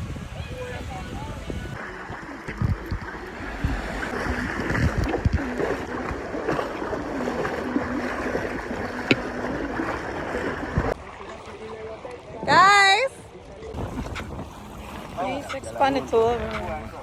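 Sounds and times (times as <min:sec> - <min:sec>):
rushing wind and water: 0:00.0 - 0:17.0.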